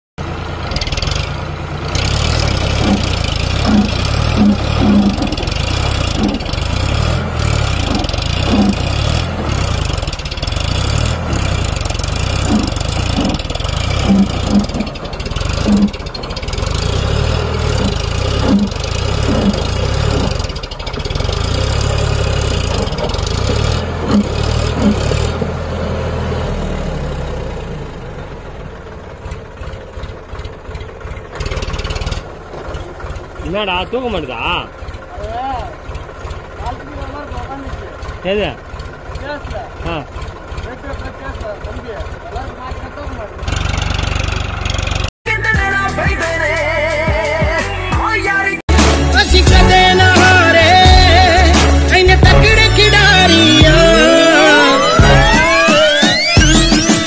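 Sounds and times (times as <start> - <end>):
tractor diesel engine throbbing: 0.2 - 57.0.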